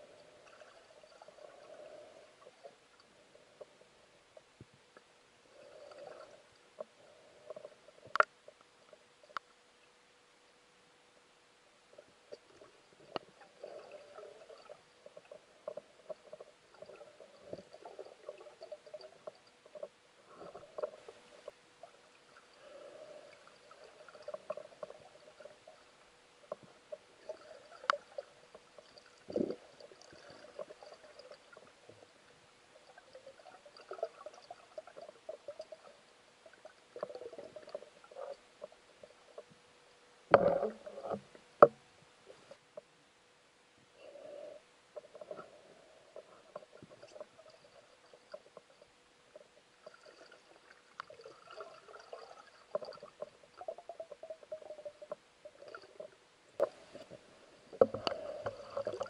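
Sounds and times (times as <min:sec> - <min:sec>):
faint steady hum: 0:00.0 - 0:59.0
muffled underwater crackles: 0:00.0 - 0:59.0.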